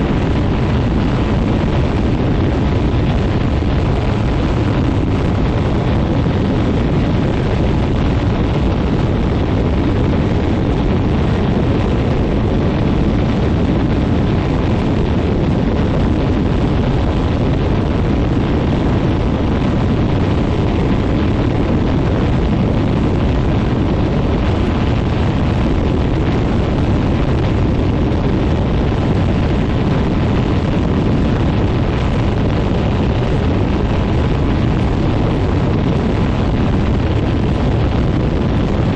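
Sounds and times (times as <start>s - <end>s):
propeller wind buffeting microphone: 0.0s - 38.9s.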